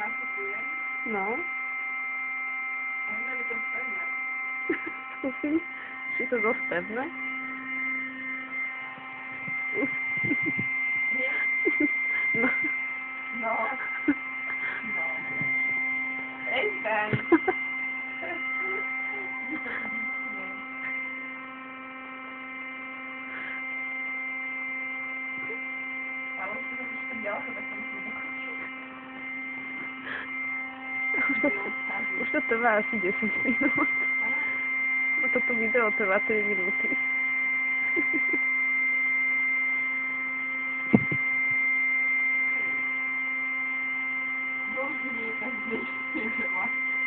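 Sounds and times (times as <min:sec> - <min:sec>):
electric air pump running: 0:00.0 - 0:47.0.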